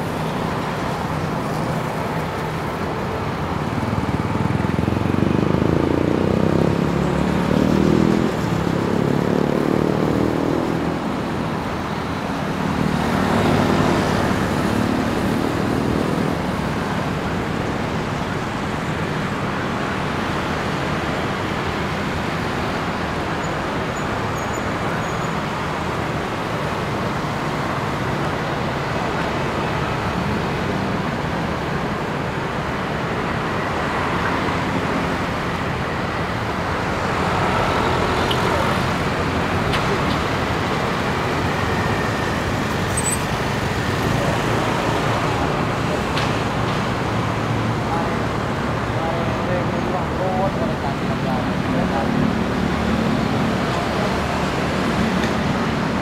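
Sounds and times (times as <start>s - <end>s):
engines passing close by: 0.0s - 56.0s
hum of passing traffic: 0.0s - 56.0s.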